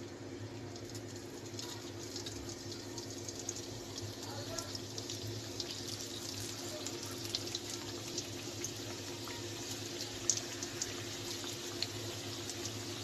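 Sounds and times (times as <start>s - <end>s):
pastries sizzling in oil: 0.0s - 13.0s
oil popping and crackling: 0.4s - 13.0s.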